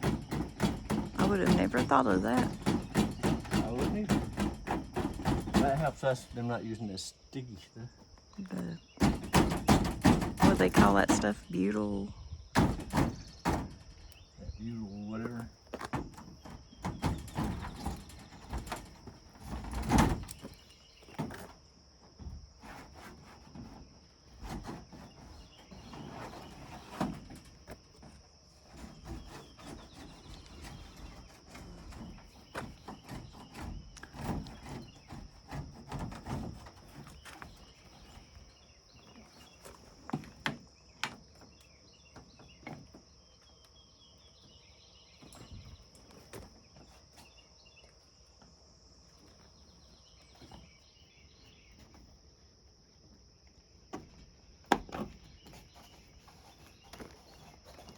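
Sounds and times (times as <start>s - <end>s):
knocks and scrapes on wall: 0.0s - 6.7s, 8.0s - 14.4s, 15.1s - 43.4s, 44.1s - 52.3s, 53.9s - 57.9s
crickets droning: 0.0s - 57.9s.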